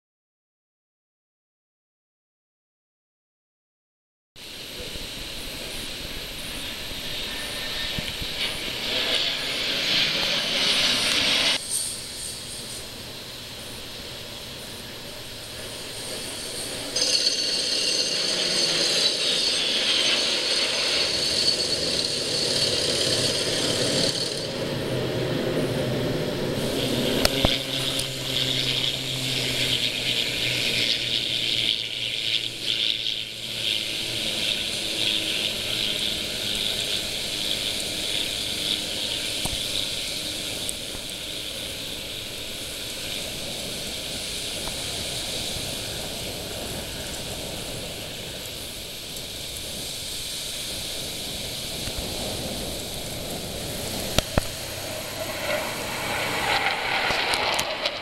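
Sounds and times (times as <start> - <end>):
jet aircraft engine whine: 4.4 - 58.0.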